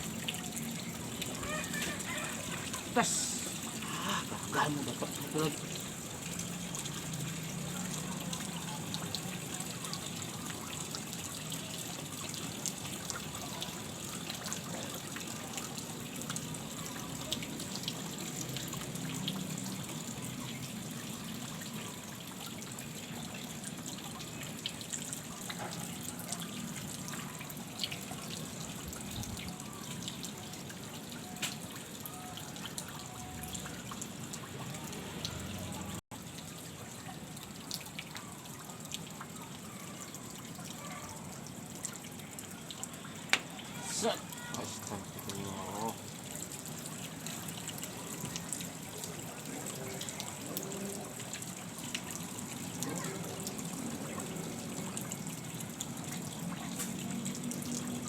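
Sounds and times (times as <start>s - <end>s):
creek water trickling: 0.0s - 58.0s.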